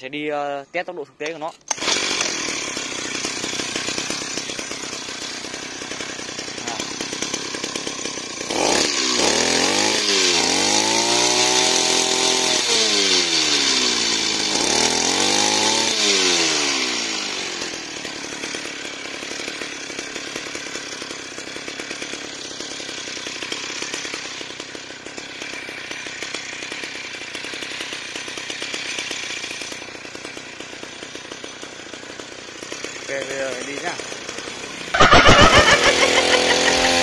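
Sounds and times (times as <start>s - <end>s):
two-stroke engine revving: 1.7s - 37.0s.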